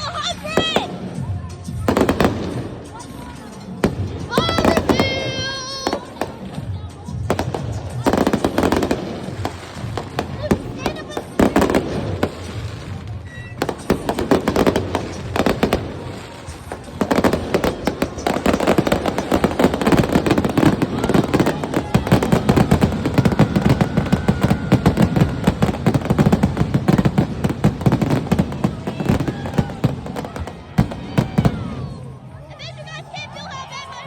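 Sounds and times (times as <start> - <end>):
fireworks bangs and crackles: 0.0 - 32.6.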